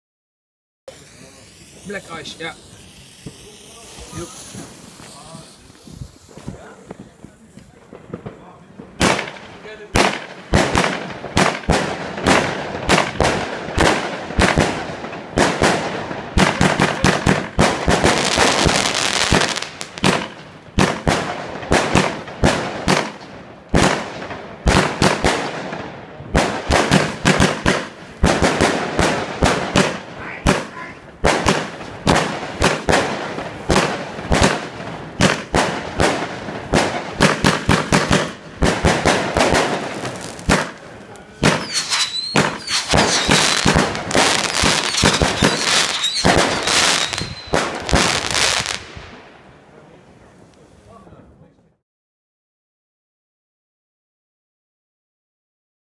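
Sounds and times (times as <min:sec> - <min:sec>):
fireworks launching and bursting: 0:00.9 - 0:49.7.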